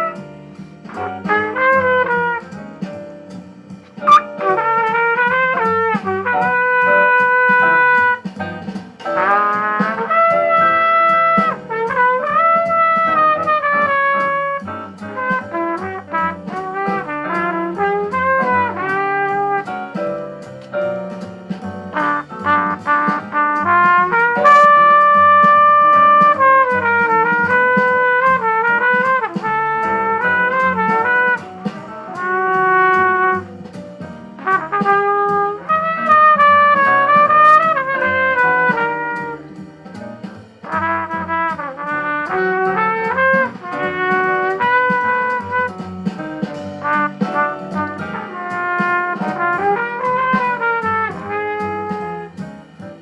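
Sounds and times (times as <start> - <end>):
trumpet playing jazz ballad: 0.0 - 53.0.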